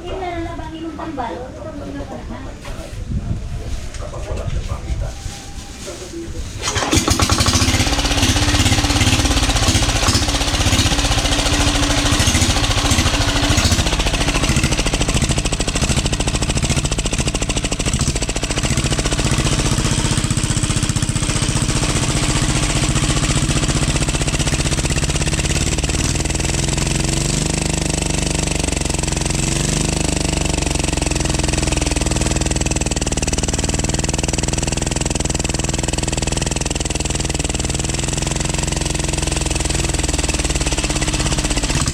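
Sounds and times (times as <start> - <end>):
diesel engine running: 5.0 - 41.9.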